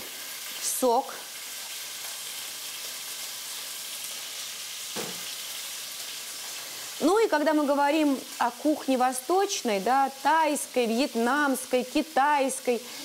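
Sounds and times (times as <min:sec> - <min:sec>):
pork chops sizzling in hot oil: 0:00.0 - 0:13.0.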